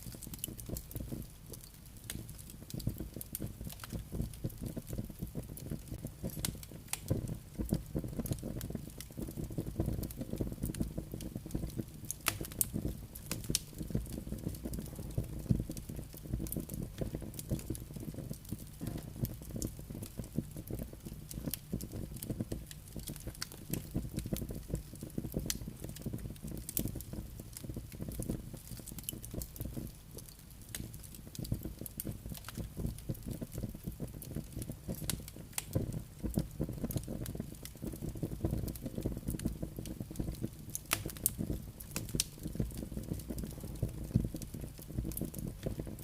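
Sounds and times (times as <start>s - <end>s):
campfire crackling and popping: 0.0s - 46.0s.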